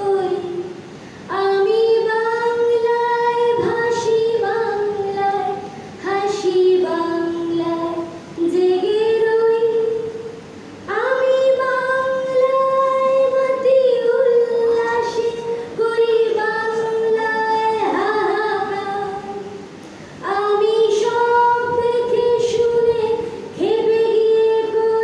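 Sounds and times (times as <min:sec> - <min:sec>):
woman singing unaccompanied: 0:00.0 - 0:25.0.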